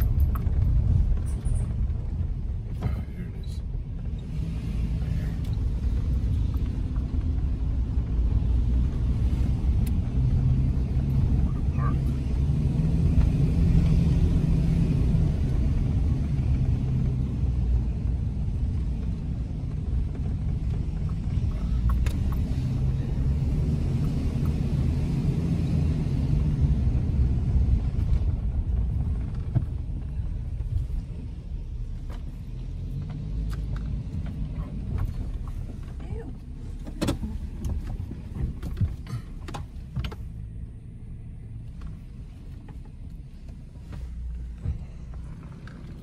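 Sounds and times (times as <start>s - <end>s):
car engine and tyre rumble: 0.0s - 46.0s.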